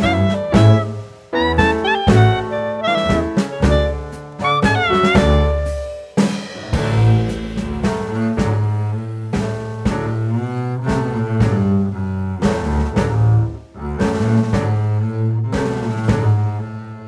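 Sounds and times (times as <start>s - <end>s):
low string music with beat: 0.0s - 17.0s.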